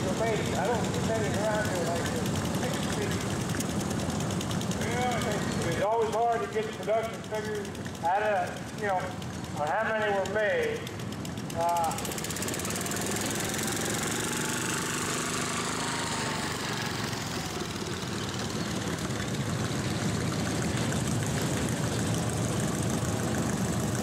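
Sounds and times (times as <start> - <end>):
garden tractor engines running: 0.0 - 24.0.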